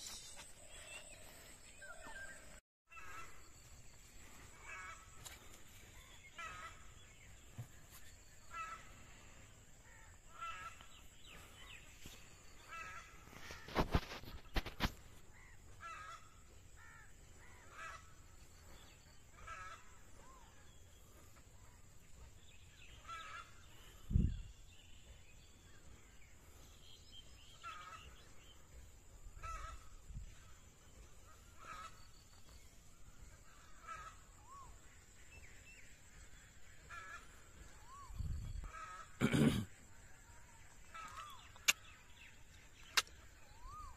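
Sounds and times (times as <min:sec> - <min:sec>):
short bird calls: 0:04.2 - 0:43.9.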